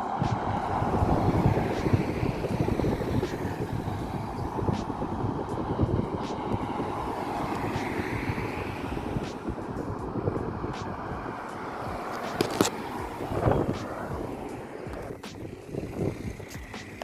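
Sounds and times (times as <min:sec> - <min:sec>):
car driving past: 0:00.0 - 0:17.0.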